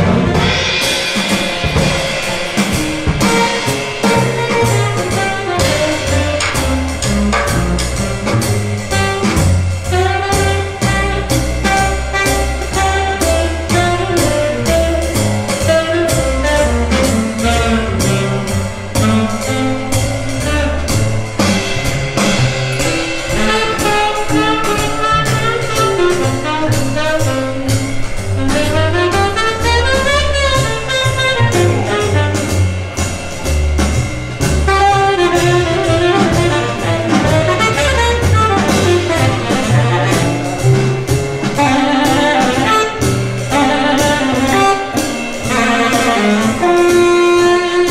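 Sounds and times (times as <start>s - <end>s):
jazz over loudspeakers: 0.0s - 47.9s.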